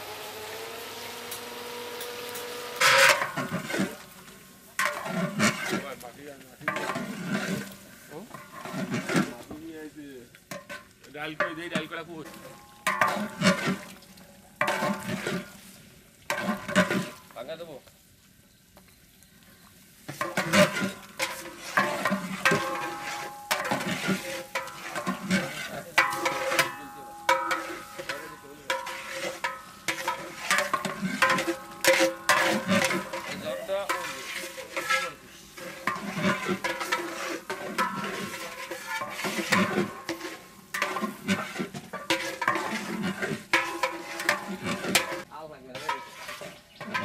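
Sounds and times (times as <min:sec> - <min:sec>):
metal ladle stirring in a pot: 0:02.0 - 0:09.6, 0:10.3 - 0:17.4, 0:20.0 - 0:47.0.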